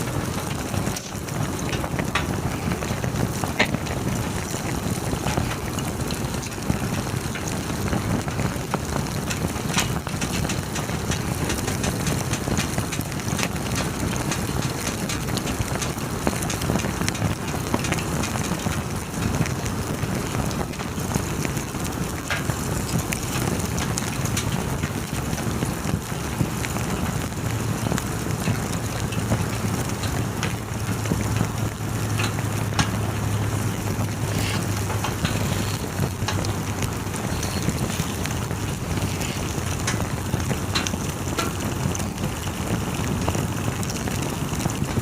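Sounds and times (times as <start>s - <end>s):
campfire crackling: 0.0s - 45.0s.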